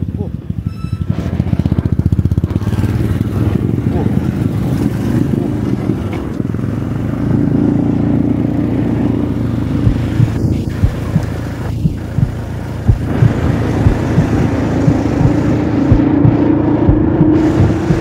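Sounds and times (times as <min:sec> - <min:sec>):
motorcycle engine running: 0:00.0 - 0:18.0
wind rumble on microphone: 0:00.0 - 0:18.0.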